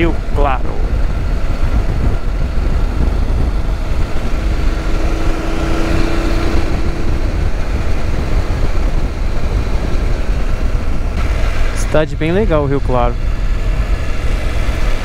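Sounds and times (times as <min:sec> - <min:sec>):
motorcycle engine cruising: 0:00.0 - 0:15.0
wind rush over microphone: 0:00.0 - 0:15.0.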